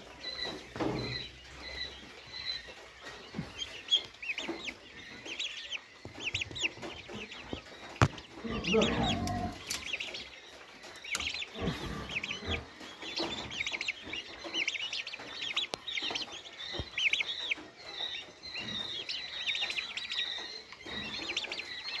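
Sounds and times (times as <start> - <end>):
turkey chicks peeping: 0.0 - 22.0.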